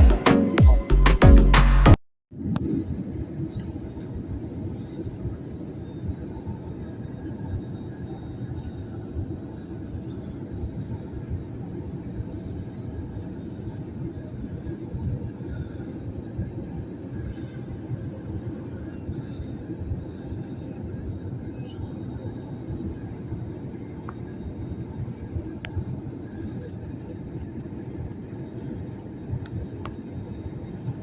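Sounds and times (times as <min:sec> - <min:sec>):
airplane cabin engine rumble: 0:02.4 - 0:31.0.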